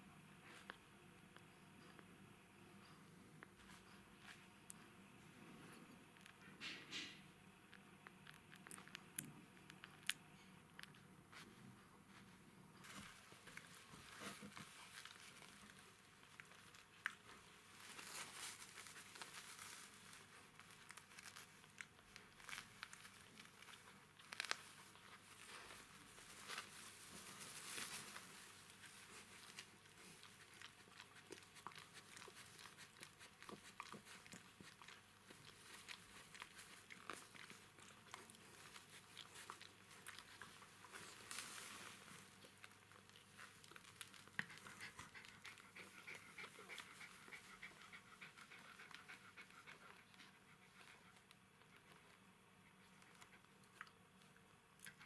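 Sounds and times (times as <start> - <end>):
puppies rustling on bedding: 0.4 - 6.5, 11.0 - 53.8.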